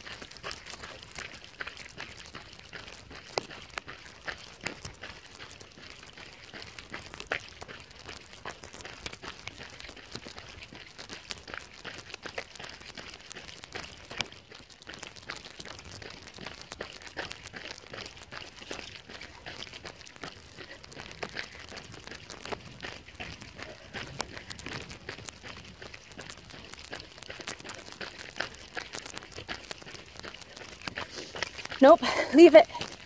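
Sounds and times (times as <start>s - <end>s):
plastic bag crinkling on microphone: 0.0s - 33.0s.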